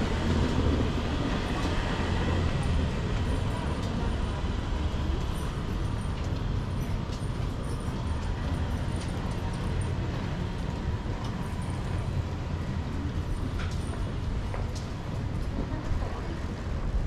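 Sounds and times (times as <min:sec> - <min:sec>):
low rumble of vehicle noise: 0:00.0 - 0:17.0.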